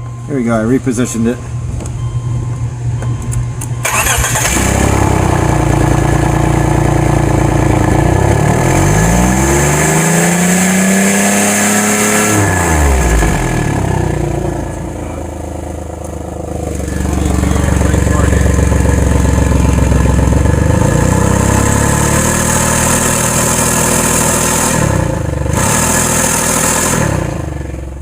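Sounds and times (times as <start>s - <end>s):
car engine revving: 3.8s - 28.0s.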